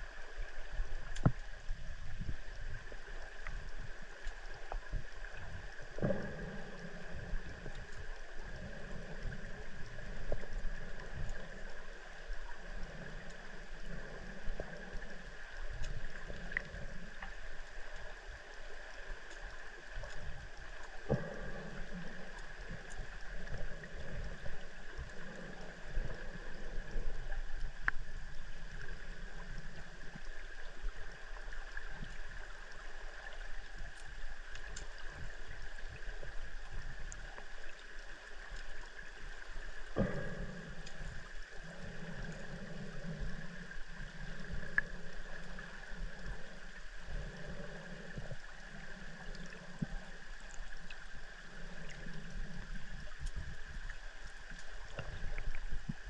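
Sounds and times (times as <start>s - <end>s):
river water gurgling underwater: 0.0s - 56.0s.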